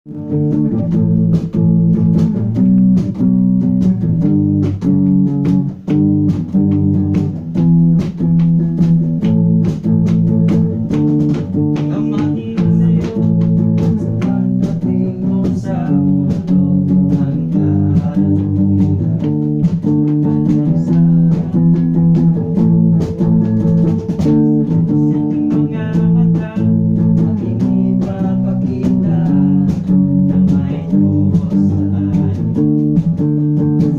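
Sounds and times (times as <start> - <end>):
bass guitar: 0.0 - 33.9
guitar playing: 0.1 - 33.9.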